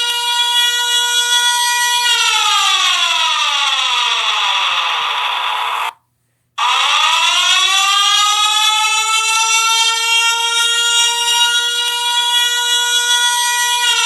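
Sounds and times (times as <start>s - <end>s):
warning siren: 0.0s - 5.9s, 6.6s - 14.0s.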